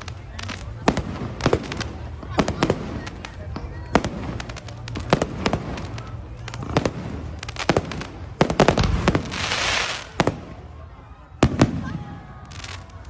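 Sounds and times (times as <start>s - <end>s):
fireworks bangs and pops: 0.0s - 13.0s
fireworks hissing burst: 0.0s - 13.0s.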